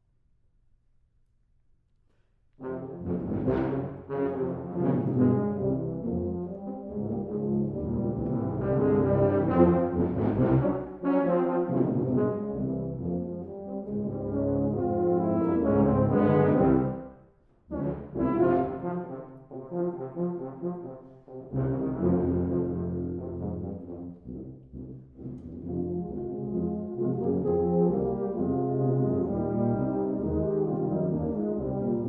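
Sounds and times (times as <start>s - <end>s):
tubas and euphoniums playing: 2.6s - 32.0s.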